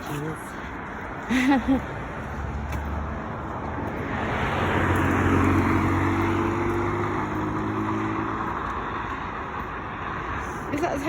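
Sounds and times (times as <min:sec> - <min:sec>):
vehicle passing: 0:00.0 - 0:11.0.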